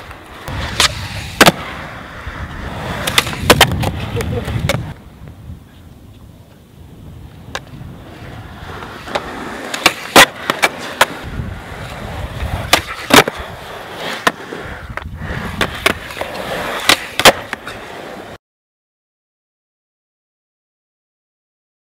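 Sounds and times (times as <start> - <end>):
skateboard clacking on ground: 0.0 - 6.7, 7.3 - 18.4
skateboard wheels rolling on concrete: 0.0 - 18.4.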